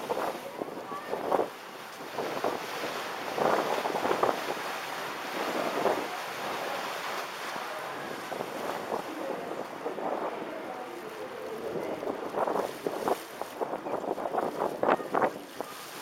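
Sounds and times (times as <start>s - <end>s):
boat rushing through water: 0.0s - 16.0s
wind buffeting microphone: 0.0s - 16.0s.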